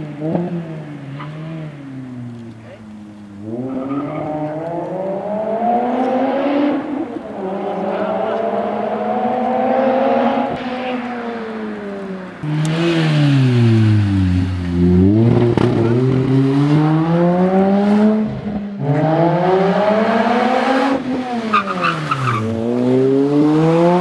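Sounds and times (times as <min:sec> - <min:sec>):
sports car engine revving: 0:00.0 - 0:24.0.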